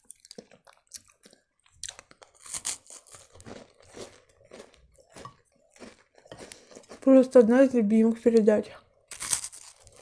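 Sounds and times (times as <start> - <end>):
biscuit crunching and chewing: 0.0 - 7.4, 9.0 - 10.0.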